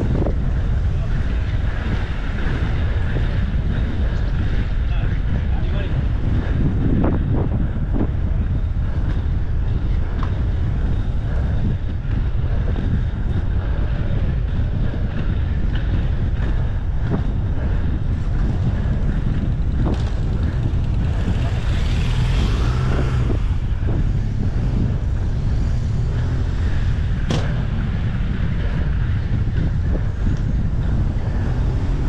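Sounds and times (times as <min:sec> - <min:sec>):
skate wheels rolling on asphalt: 0:00.0 - 0:32.0
wind on microphone: 0:00.0 - 0:32.0.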